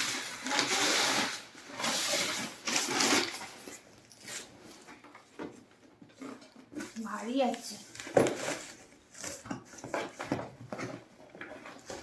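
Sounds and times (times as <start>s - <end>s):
cardboard and plastic packaging rustling: 0.0s - 12.0s.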